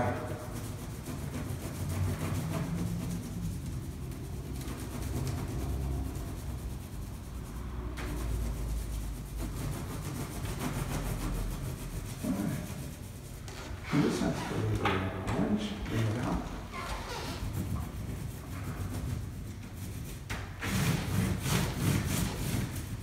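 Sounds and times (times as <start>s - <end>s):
oil pastel scrubbing on paper: 0.0s - 14.6s, 15.6s - 23.0s.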